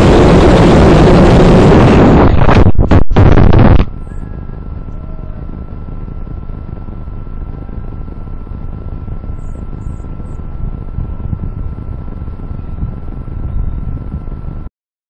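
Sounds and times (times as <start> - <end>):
thin steady whine: 0.0 - 14.7
wind rumbling on microphone: 0.0 - 14.7.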